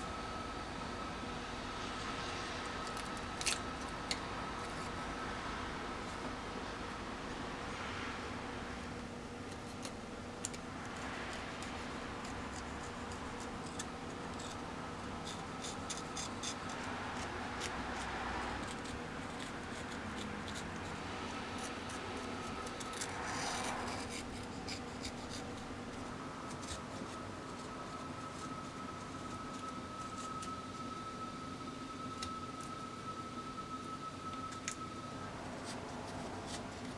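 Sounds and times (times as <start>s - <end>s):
faint hum: 0.0s - 36.9s.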